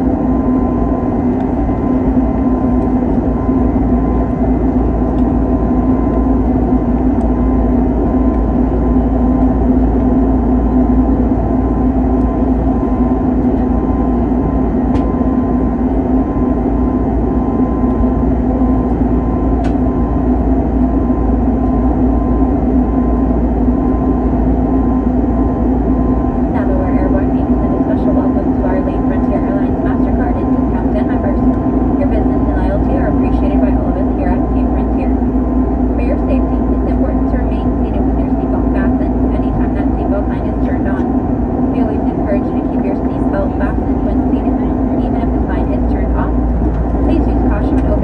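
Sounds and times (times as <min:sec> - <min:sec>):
jet engine cabin drone: 0:00.0 - 0:48.0.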